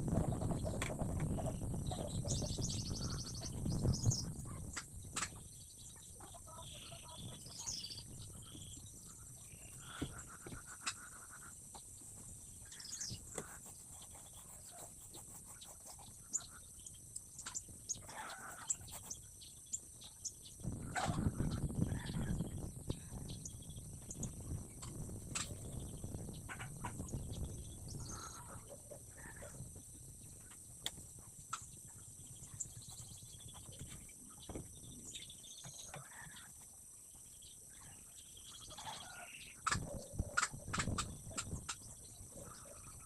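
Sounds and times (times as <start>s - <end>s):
birds chirping and trilling: 0.1s - 43.0s.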